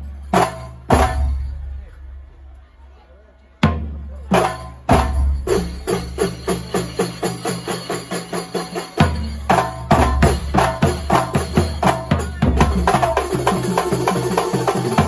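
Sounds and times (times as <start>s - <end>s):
frame drums fast rhythm: 0.0s - 1.7s, 3.6s - 15.0s.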